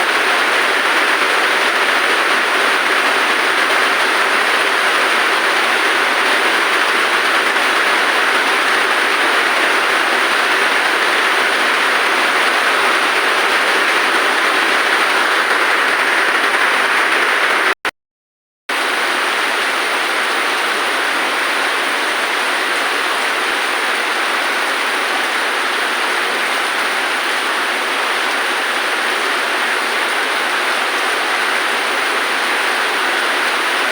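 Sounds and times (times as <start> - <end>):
heavy rain hissing: 0.0 - 17.8, 18.7 - 33.9.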